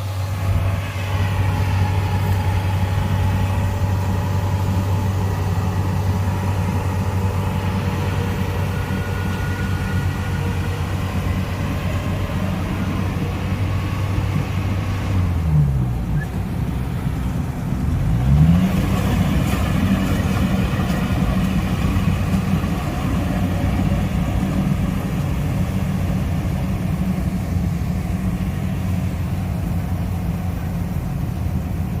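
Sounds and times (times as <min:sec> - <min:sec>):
combine harvester engine running: 0:00.0 - 0:32.0.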